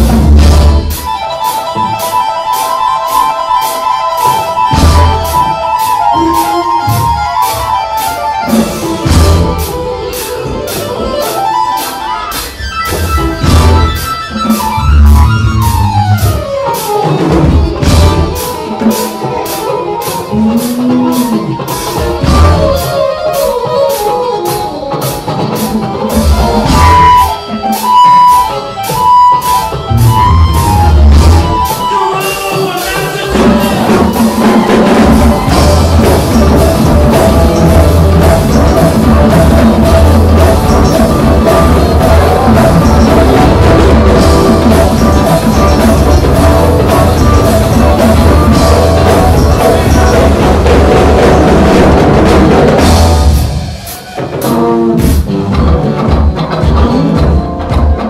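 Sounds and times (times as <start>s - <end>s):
even ticking beat: 0.0s - 53.6s
live band with keyboards and drums: 0.0s - 58.0s.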